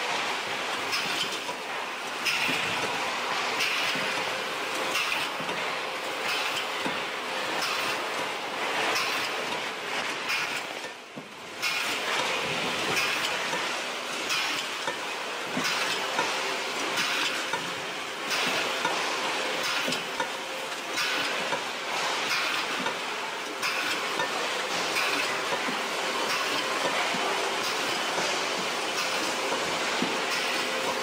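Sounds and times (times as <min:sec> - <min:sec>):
processing machinery running: 0:00.0 - 0:31.0.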